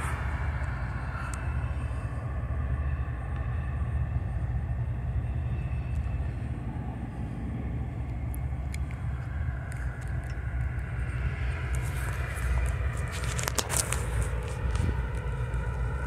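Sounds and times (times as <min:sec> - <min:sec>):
distant diesel train running: 0:00.0 - 0:16.0
wind buffeting microphone: 0:00.0 - 0:16.0.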